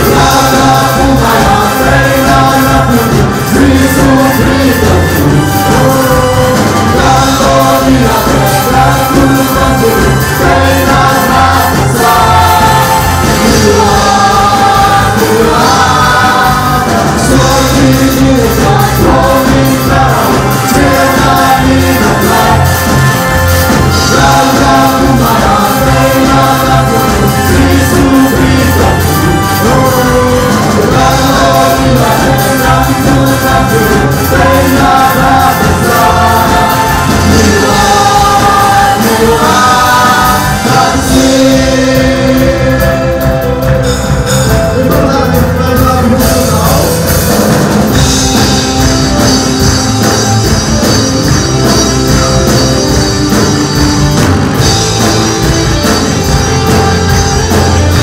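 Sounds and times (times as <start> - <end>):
band with guitars and keyboard: 0.0 - 58.0
drum kit beat: 0.0 - 58.0
voices singing: 0.0 - 58.0.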